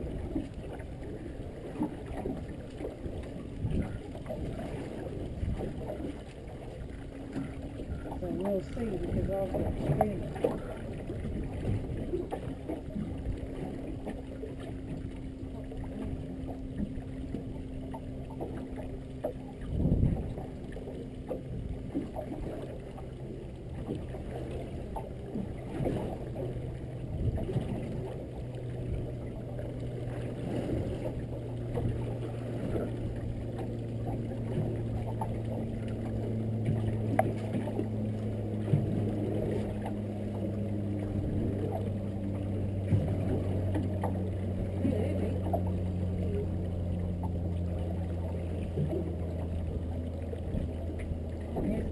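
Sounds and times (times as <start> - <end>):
boat engine hum: 0.0 - 51.9
water slapping against boat hull: 0.0 - 51.9.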